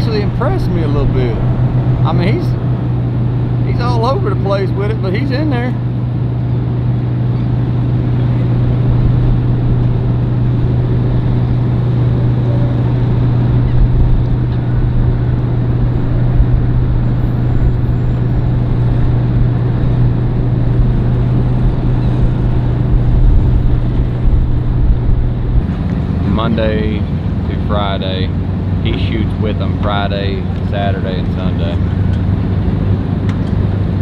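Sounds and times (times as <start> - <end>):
engine humming: 0.0 - 34.0
steady noise: 0.0 - 34.0.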